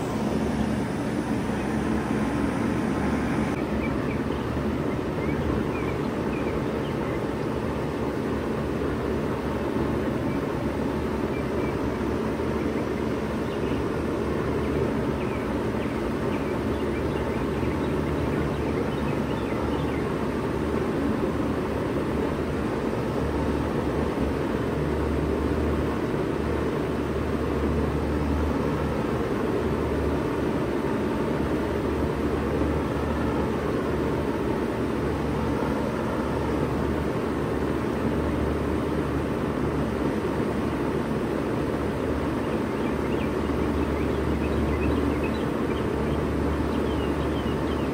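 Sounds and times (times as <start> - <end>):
condenser fan noise: 0.0 - 47.9
heat pump compressor hum: 0.0 - 47.9.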